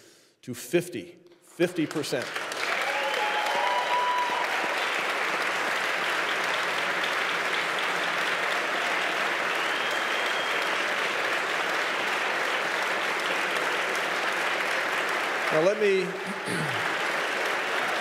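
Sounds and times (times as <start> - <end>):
large audience applauding: 1.8 - 18.0.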